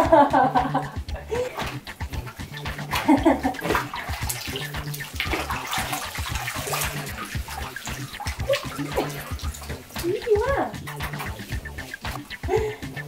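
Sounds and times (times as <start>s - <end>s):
bathwater sloshing and splashing: 0.3s - 13.0s.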